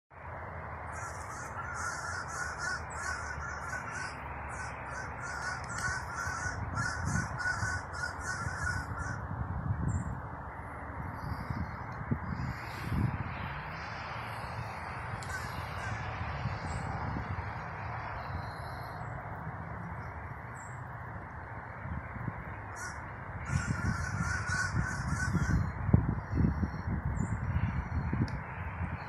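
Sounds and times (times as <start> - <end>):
steady low background rumble: 0.3 - 21.1, 21.7 - 29.0.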